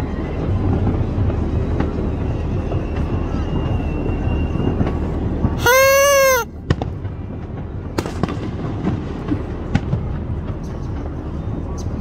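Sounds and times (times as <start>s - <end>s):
distant fireworks bursting: 0.4s - 11.2s.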